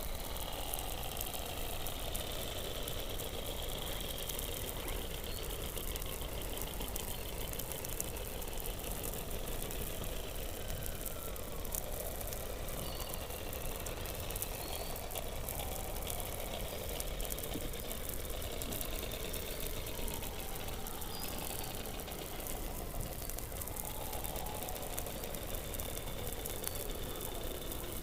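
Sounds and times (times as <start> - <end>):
gliding whistle-like calls: 0.0 - 28.0
underwater low rumble and hiss: 0.0 - 28.0.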